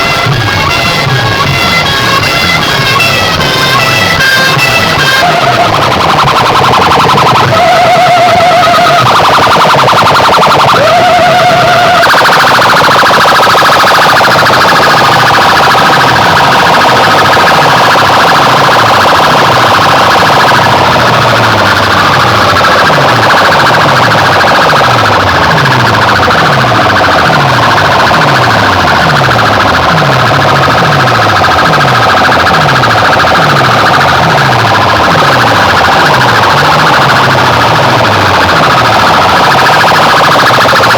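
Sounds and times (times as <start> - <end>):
electronic dance track: 0.0 - 40.9
held high tones: 0.0 - 40.9
siren-like alarm effects: 0.0 - 40.9.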